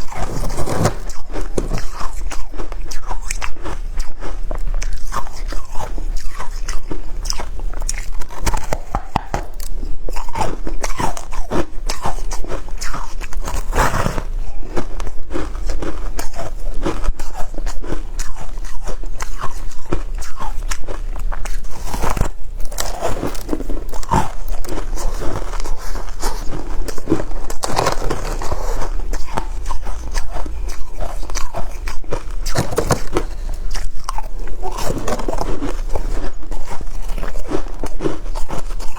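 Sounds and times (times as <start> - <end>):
ice being chewed crunchily: 0.0 - 38.9.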